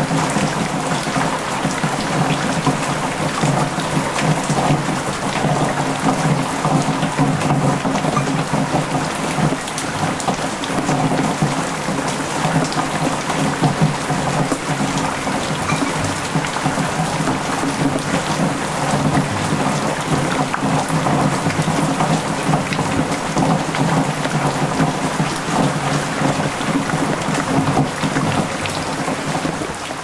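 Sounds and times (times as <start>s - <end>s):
heavy rain pouring: 0.0s - 30.0s
water splashing and running: 0.0s - 30.0s.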